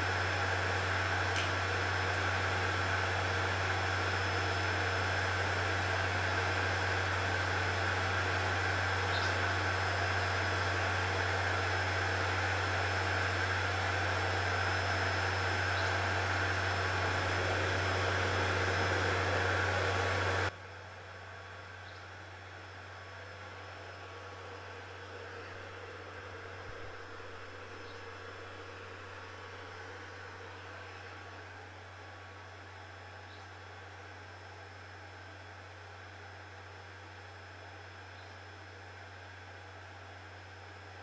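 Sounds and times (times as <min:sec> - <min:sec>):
centrifuge humming and whirring: 0:00.0 - 0:41.0.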